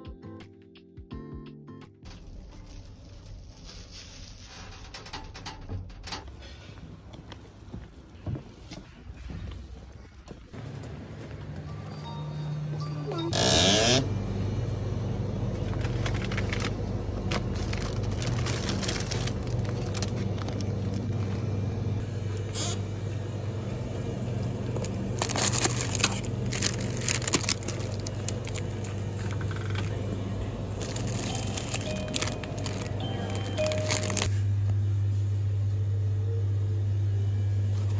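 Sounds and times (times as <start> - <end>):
refrigerated display cases humming: 2.1 - 37.9.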